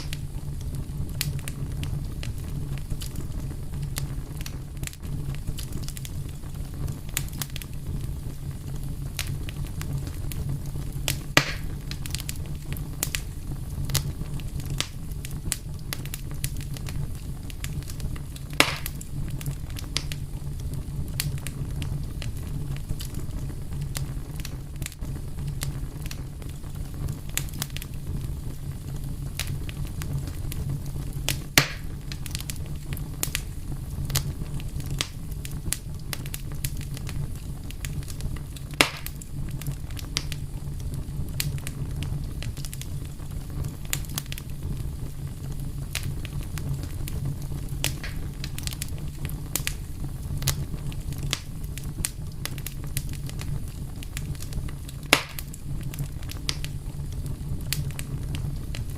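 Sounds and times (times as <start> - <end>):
sharp fire pops and snaps: 0.0 - 58.9
wood fire crackling: 0.0 - 58.9.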